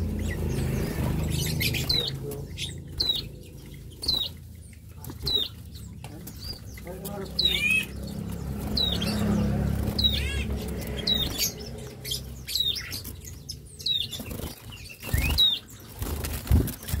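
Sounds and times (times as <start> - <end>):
birds giving sharp calls: 0.0 - 17.0
wings fluttering: 0.0 - 17.0.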